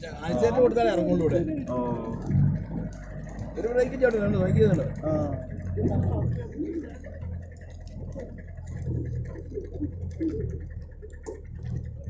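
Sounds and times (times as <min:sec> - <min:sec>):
clicking and rattling: 0:00.0 - 0:12.0
engine low drone: 0:00.0 - 0:12.0.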